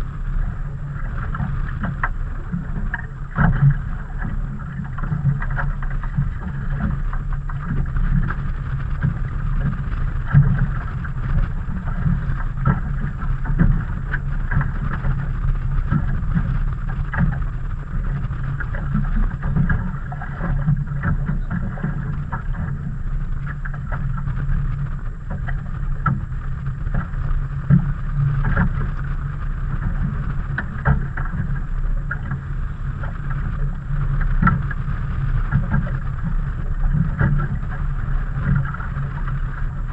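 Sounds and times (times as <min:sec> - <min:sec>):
outboard boat engine rumble: 0:00.0 - 0:39.9.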